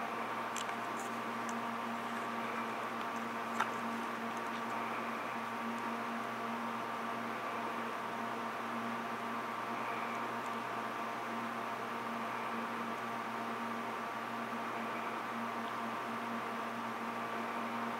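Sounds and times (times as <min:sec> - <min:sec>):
faint electrical hum and whine: 0:00.0 - 0:17.9.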